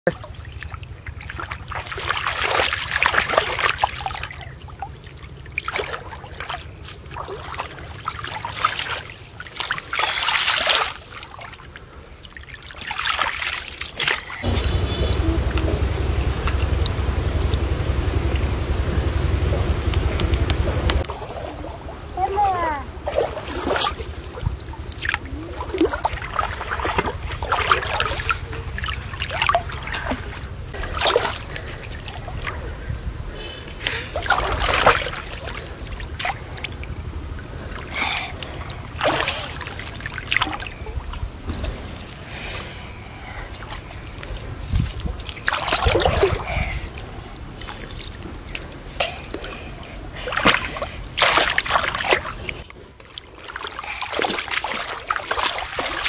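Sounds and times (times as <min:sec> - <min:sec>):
muddy water splashing: 0:00.1 - 0:56.0.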